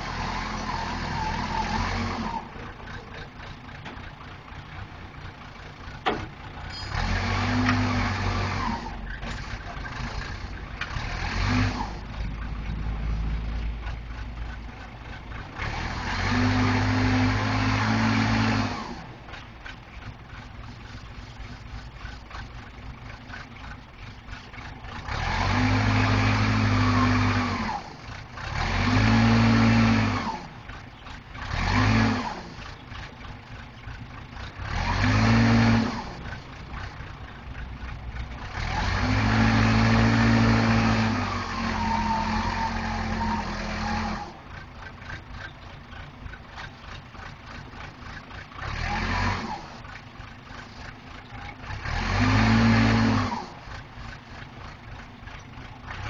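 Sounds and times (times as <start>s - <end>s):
backhoe engine idling and revving: 0.0s - 56.0s.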